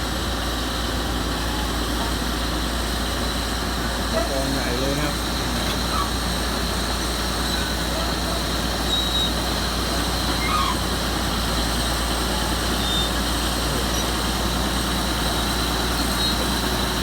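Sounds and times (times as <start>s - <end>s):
bulldozer diesel engine running: 0.0s - 17.0s
steel tracks clanking: 0.8s - 17.0s.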